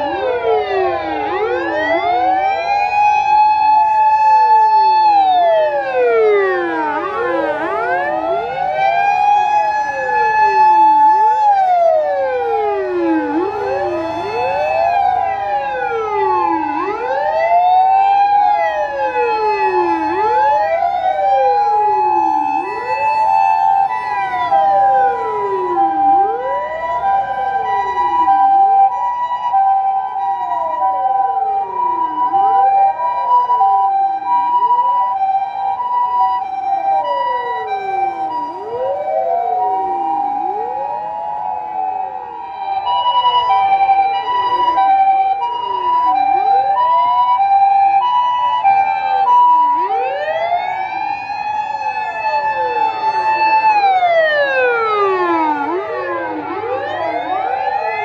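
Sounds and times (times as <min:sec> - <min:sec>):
ambulance two-tone siren: 0:00.0 - 0:58.0
fire engine sirens wailing: 0:00.0 - 0:58.0.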